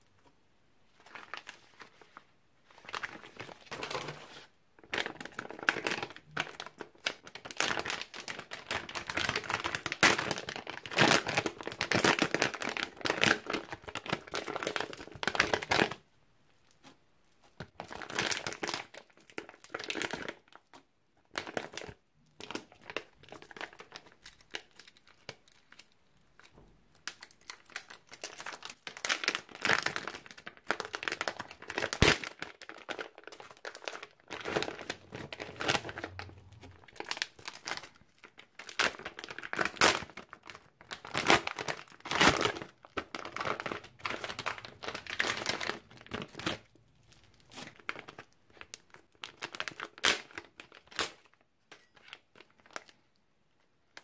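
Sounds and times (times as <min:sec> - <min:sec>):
foil and plastic packets crinkling: 0:01.0 - 0:02.1, 0:02.7 - 0:16.0, 0:17.6 - 0:53.2.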